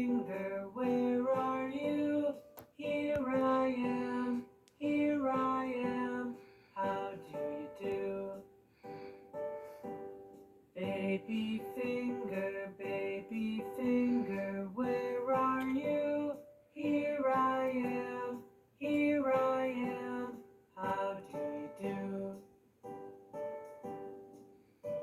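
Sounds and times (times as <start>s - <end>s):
children's song melody: 0.0s - 25.0s.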